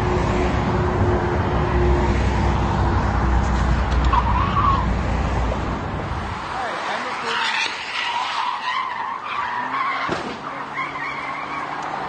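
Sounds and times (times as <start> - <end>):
freeway traffic rumble: 0.0 - 12.0.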